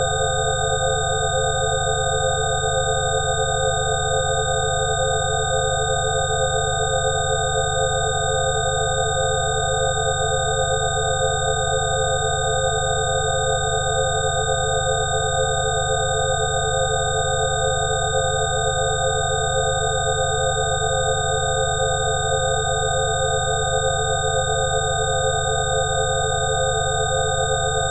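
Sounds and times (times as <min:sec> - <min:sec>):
layered steady sine tones: 0:00.0 - 0:27.9.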